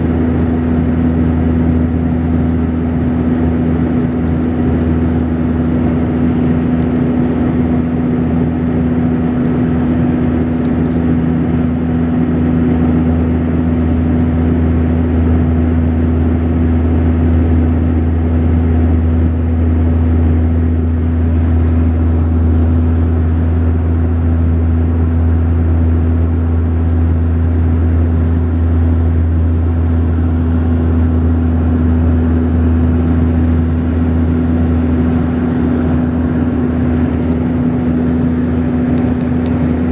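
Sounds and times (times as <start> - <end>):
propeller engines droning in cabin: 0.0 - 39.9.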